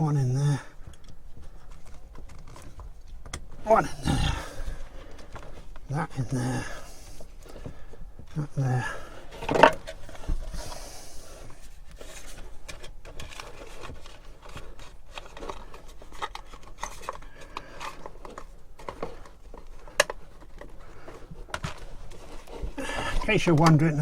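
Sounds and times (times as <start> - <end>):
wires clicking and rubbing: 0.0 - 24.0.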